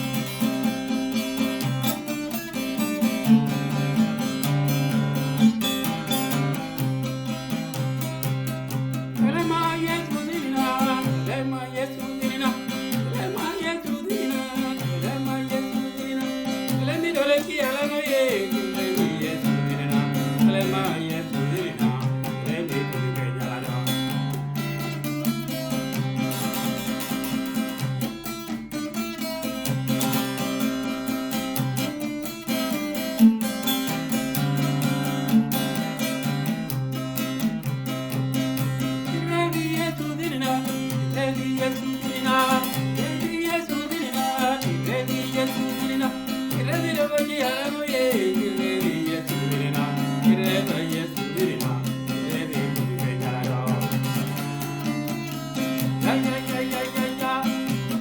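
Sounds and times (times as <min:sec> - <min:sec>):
guitar plucked and strummed: 0:00.0 - 0:58.0.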